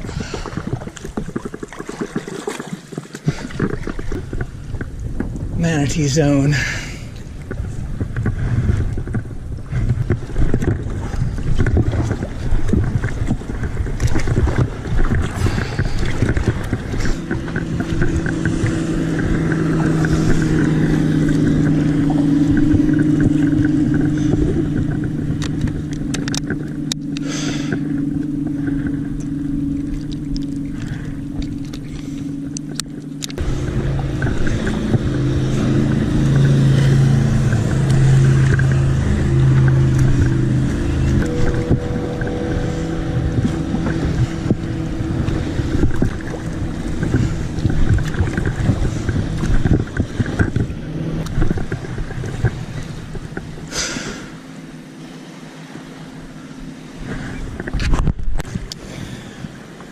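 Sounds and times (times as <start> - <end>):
motorboat engine humming: 0.0 - 59.9
water noise: 0.0 - 59.9
wind: 0.0 - 59.9.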